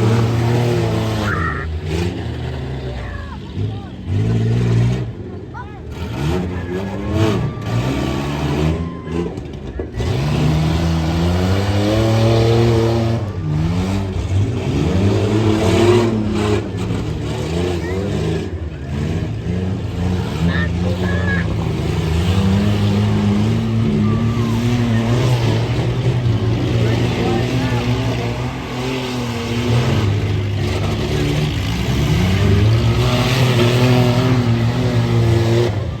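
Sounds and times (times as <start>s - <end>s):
truck engine accelerating: 0.0s - 36.0s.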